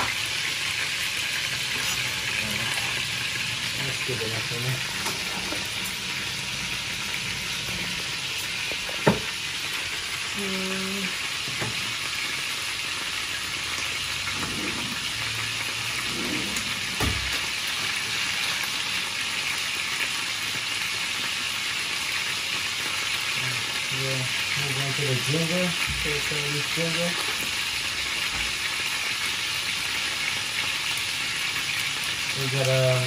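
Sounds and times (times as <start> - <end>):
fish frying in a pan: 0.0 - 33.0.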